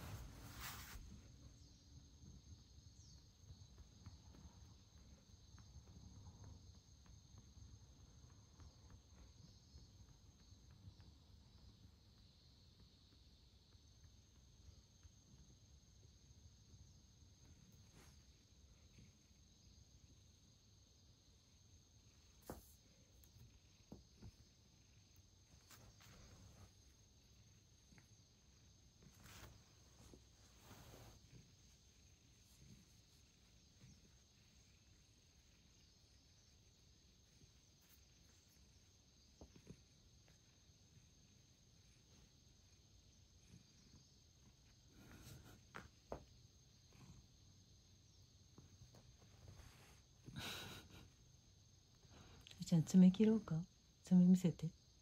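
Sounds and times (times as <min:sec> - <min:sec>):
faint high-pitched whine: 0:00.0 - 0:55.0.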